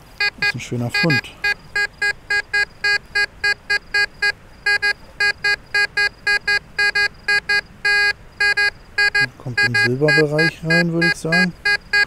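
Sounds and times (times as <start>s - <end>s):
metal detector beeping: 0.2s - 12.0s.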